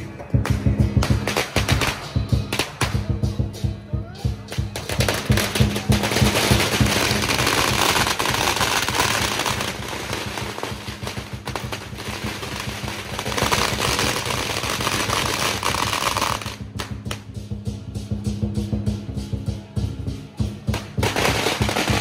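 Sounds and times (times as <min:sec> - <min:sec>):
firecrackers crackling: 0:00.0 - 0:22.0.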